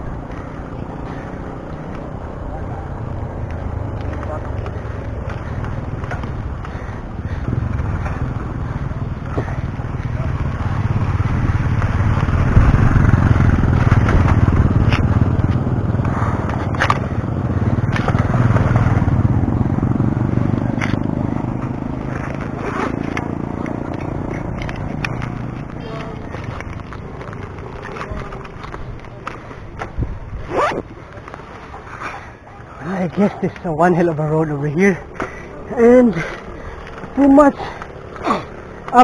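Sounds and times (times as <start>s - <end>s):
bicycle road noise: 0.0s - 39.0s
sharp clicks from bumps: 0.0s - 39.0s.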